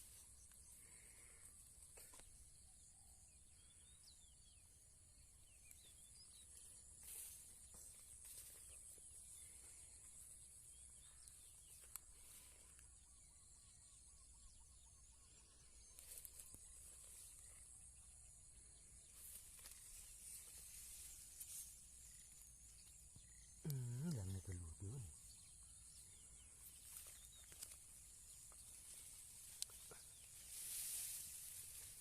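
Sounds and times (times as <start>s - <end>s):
faint chirps: 0.0s - 32.0s.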